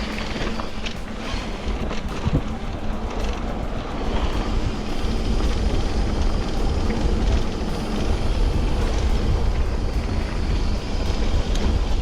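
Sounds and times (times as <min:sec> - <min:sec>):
bicycle tyre and road noise: 0:00.0 - 0:12.0
wind rush on microphone: 0:00.0 - 0:12.0.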